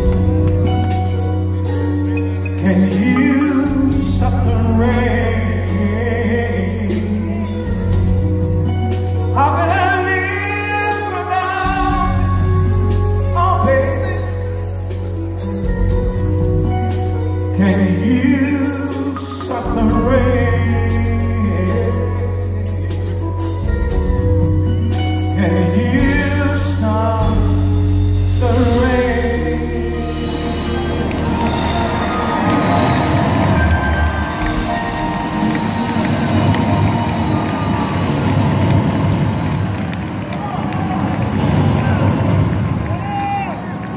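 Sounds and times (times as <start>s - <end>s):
live band playing soul ballad: 0.0s - 40.0s
person singing: 0.1s - 15.5s, 16.2s - 24.2s, 25.0s - 37.5s.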